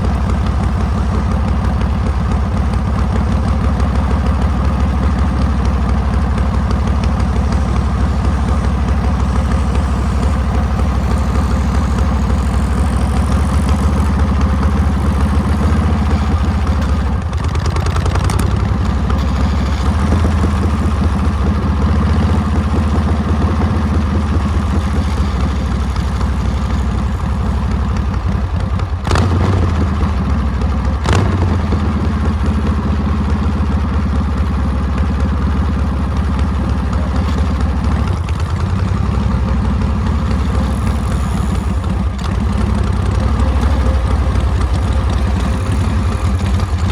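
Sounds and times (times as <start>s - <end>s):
motorcycle engine running loudly: 0.0s - 46.9s.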